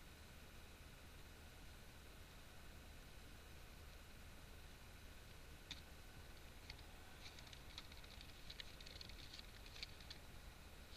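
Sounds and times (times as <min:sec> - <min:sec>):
faint low hum: 0:00.0 - 0:10.9.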